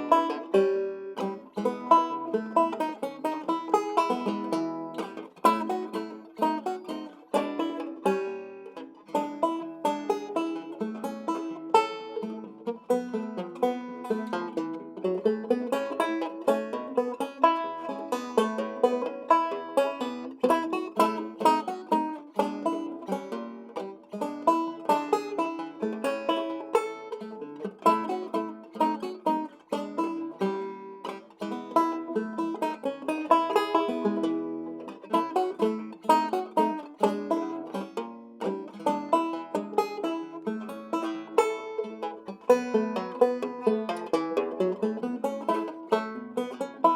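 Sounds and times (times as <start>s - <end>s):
fingerpicked banjo ragtime: 0.0s - 46.9s.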